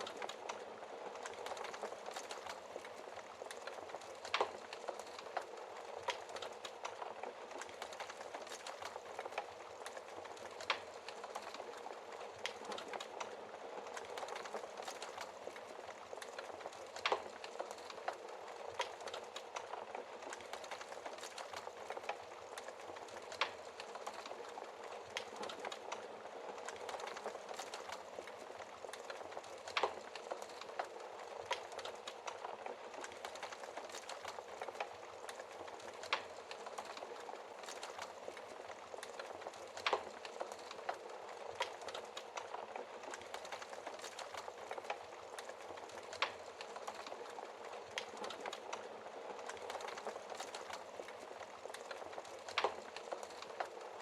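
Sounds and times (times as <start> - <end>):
wood fire crackling: 0.0 - 54.0
burning wood popping: 1.2 - 54.0.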